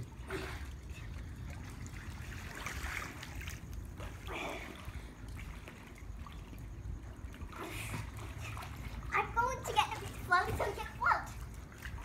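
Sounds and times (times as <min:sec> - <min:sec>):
pool water lapping and splashing: 0:00.0 - 0:12.0.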